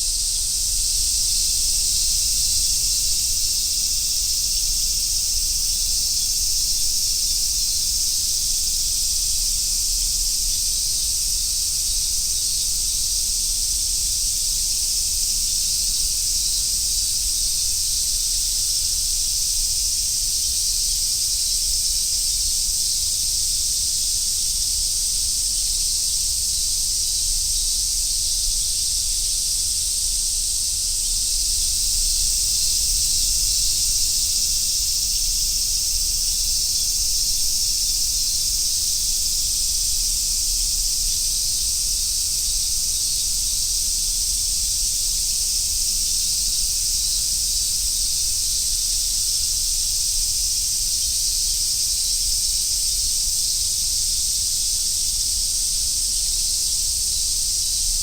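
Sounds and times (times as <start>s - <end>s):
cicadas droning: 0.0s - 58.0s.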